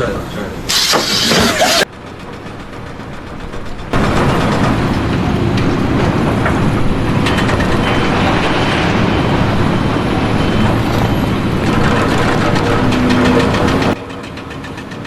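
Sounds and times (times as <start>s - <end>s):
large engine running: 0.7s - 15.0s
sharp clanks: 0.7s - 15.0s.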